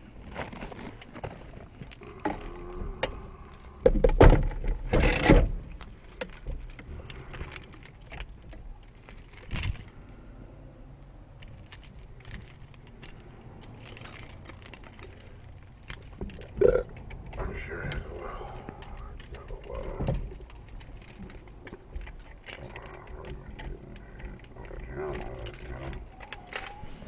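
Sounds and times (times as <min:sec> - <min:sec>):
small clicks and rattles: 0:00.3 - 0:10.2, 0:11.0 - 0:27.0.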